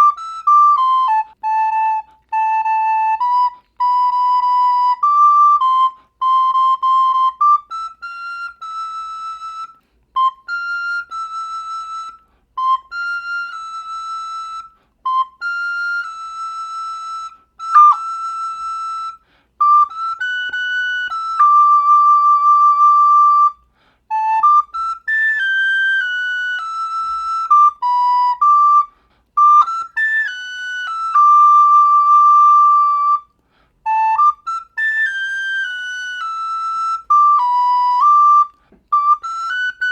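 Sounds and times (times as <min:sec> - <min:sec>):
recorder playing slow melody: 0:00.0 - 0:39.9.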